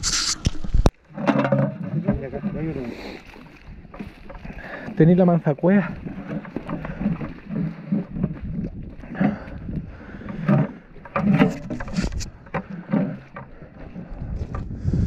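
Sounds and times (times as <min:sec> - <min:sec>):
boot footsteps on wet mud: 0:00.1 - 0:15.0.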